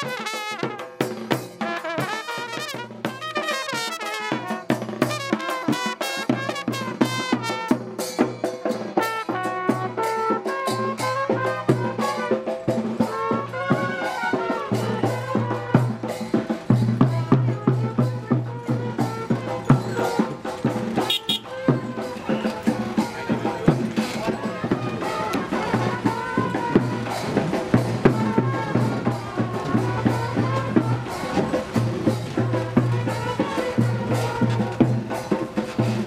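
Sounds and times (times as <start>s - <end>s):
trumpets playing melody: 0.0s - 8.2s, 9.0s - 16.2s, 17.1s - 35.6s
constant drumming: 0.0s - 36.0s.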